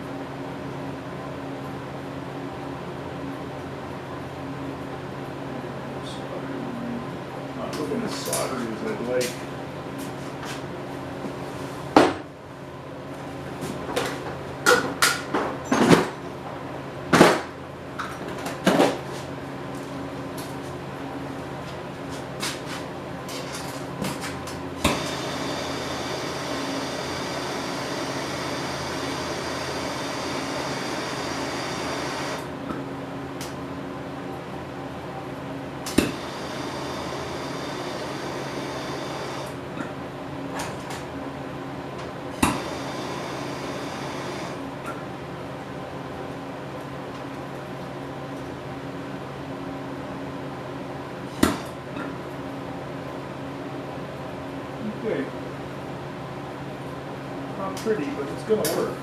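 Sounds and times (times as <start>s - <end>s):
constant low hum: 0.0s - 59.0s.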